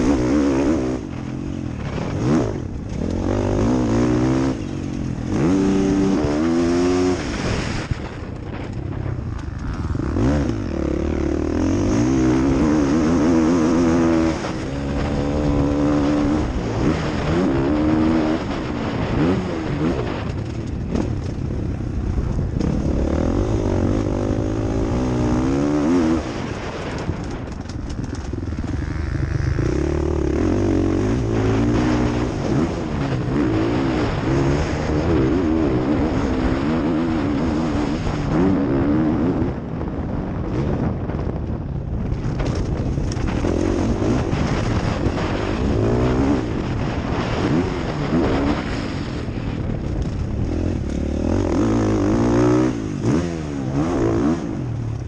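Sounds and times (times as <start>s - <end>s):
motorbike engine revving: 0.0s - 39.6s, 42.3s - 55.0s.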